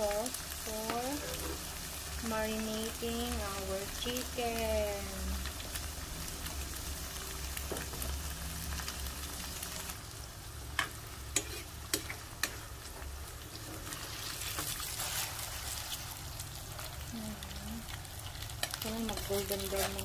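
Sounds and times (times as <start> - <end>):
tofu sizzling in oil: 0.0 - 20.0.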